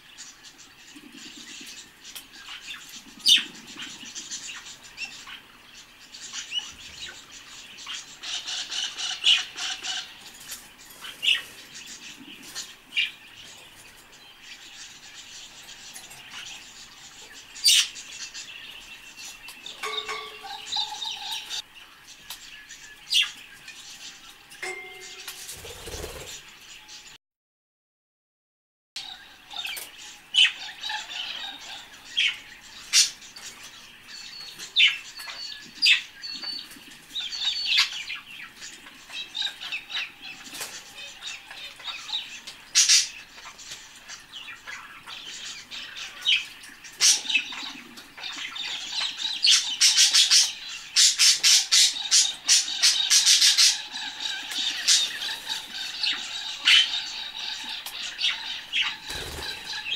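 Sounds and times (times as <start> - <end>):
budgerigars chattering and chirping: 0.0 - 27.1, 29.0 - 59.9.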